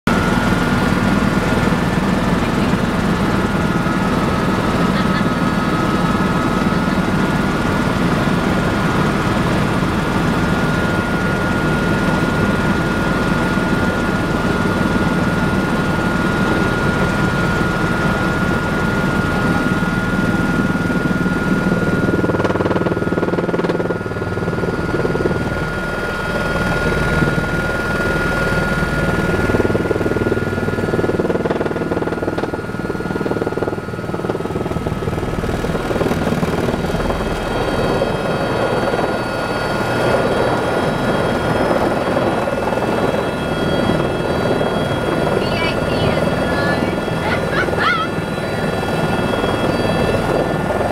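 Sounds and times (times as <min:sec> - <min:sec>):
helicopter rotor and turbine: 0:00.1 - 0:50.9
high turbine whine: 0:00.1 - 0:50.9.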